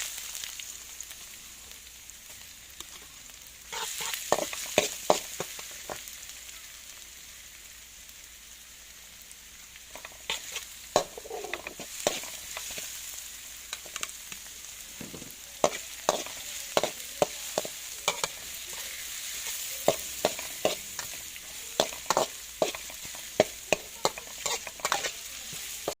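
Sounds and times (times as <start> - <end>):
chives sizzling in hot oil: 0.0 - 26.0.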